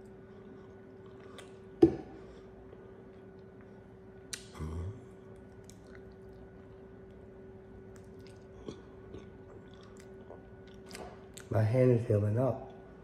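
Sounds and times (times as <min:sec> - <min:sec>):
person chewing: 0:00.0 - 0:11.5
steady low hum: 0:00.0 - 0:13.0.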